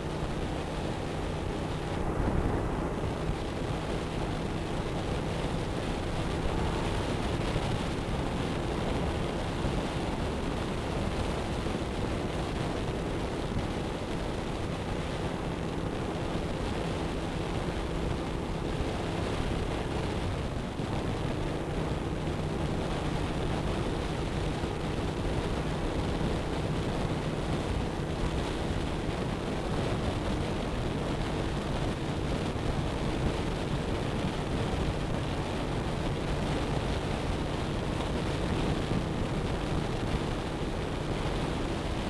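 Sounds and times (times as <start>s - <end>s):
motorcycle engine drone: 0.0s - 42.0s
wind rushing over microphone: 0.0s - 42.0s.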